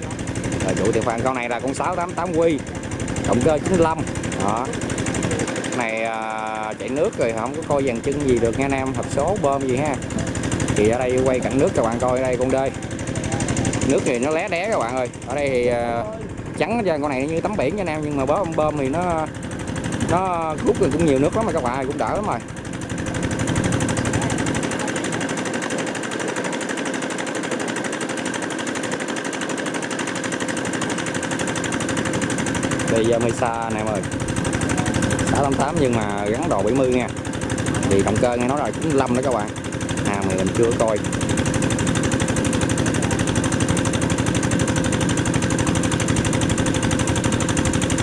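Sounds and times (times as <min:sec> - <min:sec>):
engine hum: 0:00.0 - 0:48.0.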